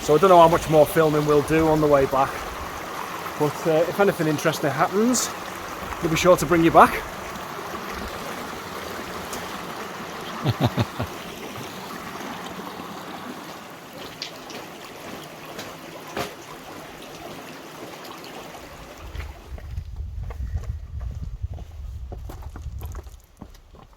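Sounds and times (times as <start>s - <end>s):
stream running over rocks: 0.0s - 19.8s.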